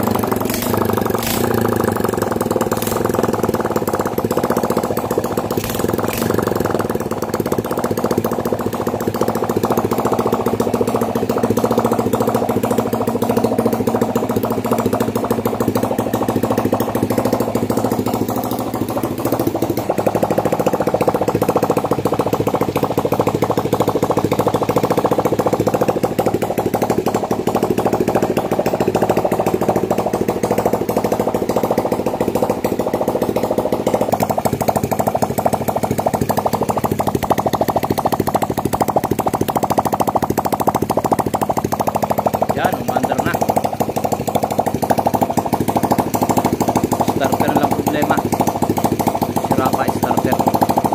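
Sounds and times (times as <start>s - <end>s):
small engine puttering: 0.0s - 50.9s.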